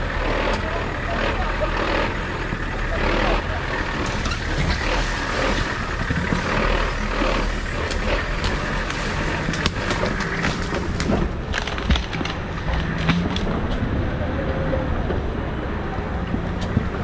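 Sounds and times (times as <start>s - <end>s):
knocks and clatters from rough ground: 0.0s - 14.0s
vehicle engine low rumble: 0.0s - 17.0s.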